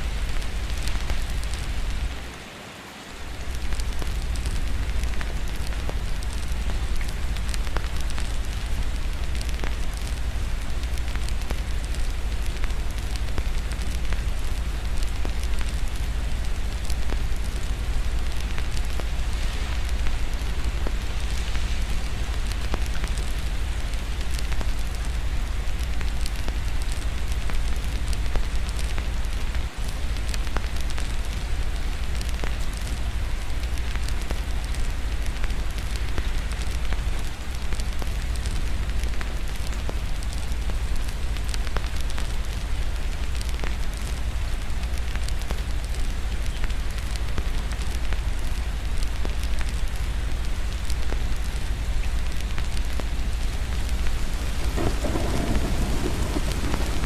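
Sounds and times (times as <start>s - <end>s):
constant low rumble: 0.0s - 2.4s, 3.1s - 57.0s
steady rain: 0.0s - 57.0s
fireplace crackling and popping: 3.4s - 57.0s.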